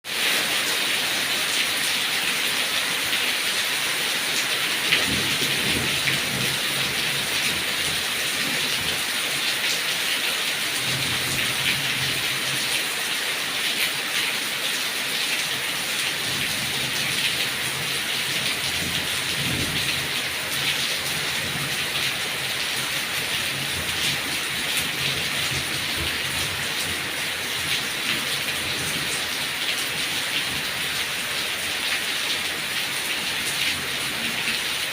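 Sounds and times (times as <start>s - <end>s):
heavy rain on leaves: 0.0s - 34.9s.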